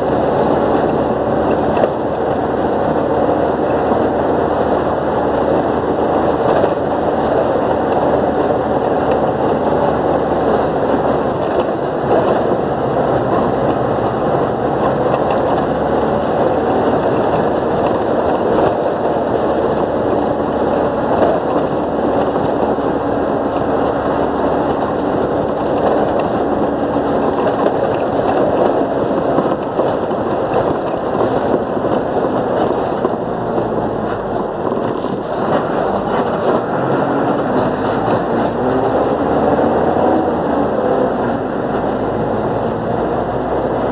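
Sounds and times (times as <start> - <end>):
bus engine running: 0.0 - 43.9
rattling bus body: 0.0 - 43.9
road noise: 0.0 - 43.9.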